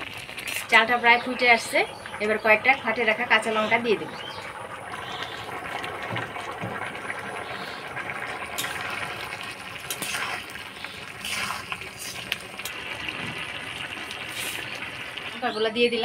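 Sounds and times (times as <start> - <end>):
pot bubbling: 0.0 - 16.0.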